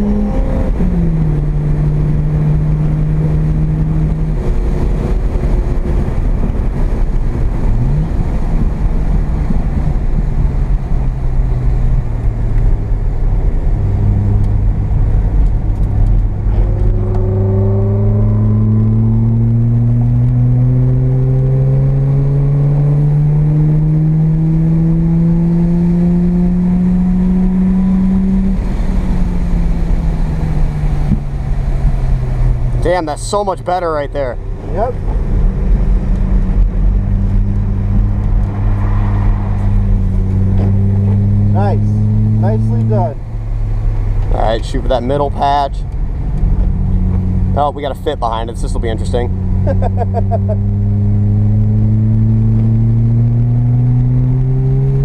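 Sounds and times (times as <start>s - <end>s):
road noise rushing: 0.0s - 55.0s
rotary engine accelerating: 0.0s - 55.0s.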